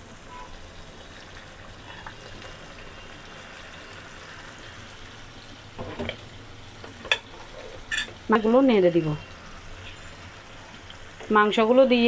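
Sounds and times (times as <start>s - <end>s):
sauce simmering in a pan: 0.0s - 12.0s.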